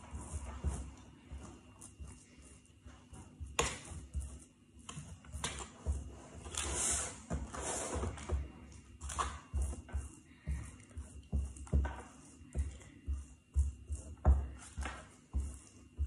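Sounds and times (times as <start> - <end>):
spoon scraping biscuit base: 0.0 - 16.0.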